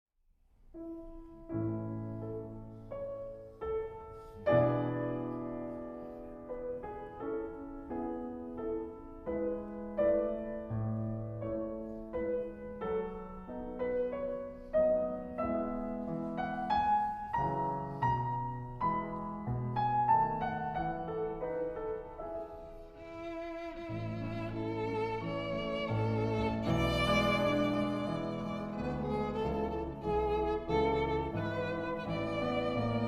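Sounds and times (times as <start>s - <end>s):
gentle piano piece: 0.5s - 33.0s.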